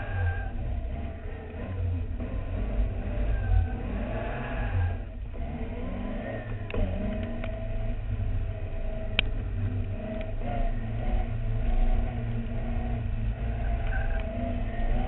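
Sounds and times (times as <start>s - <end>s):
sports car engine on track: 0.0s - 15.0s.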